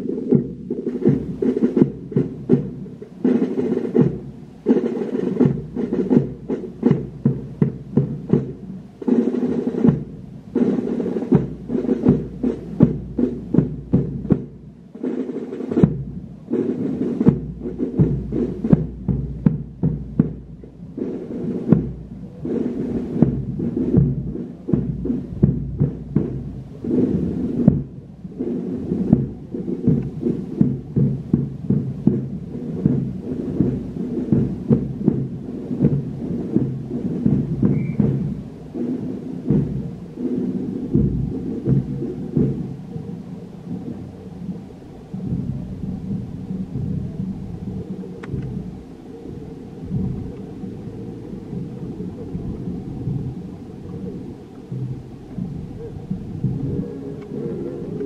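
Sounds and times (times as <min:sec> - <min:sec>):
brass marching band: 0:00.0 - 0:58.0
drum strikes: 0:00.0 - 0:58.0
wind rumble on microphone: 0:00.0 - 0:58.0.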